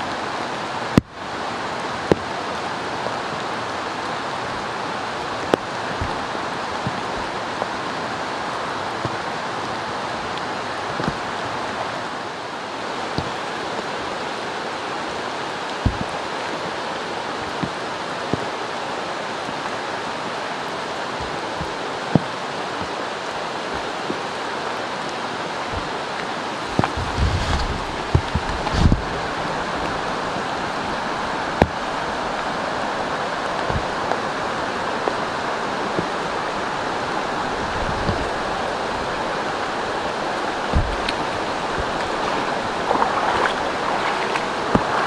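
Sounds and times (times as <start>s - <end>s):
heavy rain: 0.0s - 45.0s
mountain stream rushing: 0.0s - 45.0s.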